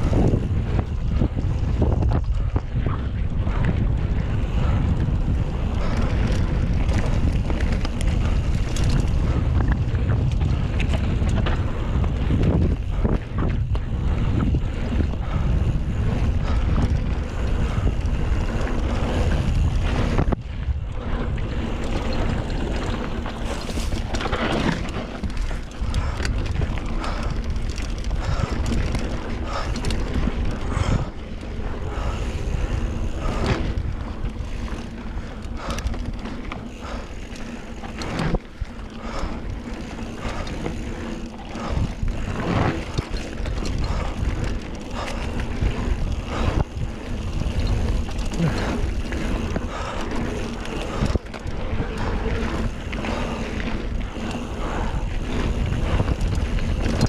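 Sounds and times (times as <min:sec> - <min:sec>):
bike rattling and knocking: 0:00.0 - 0:57.0
bike tyre rumble on dirt: 0:00.0 - 0:57.0
wind buffeting microphone: 0:00.0 - 0:57.0.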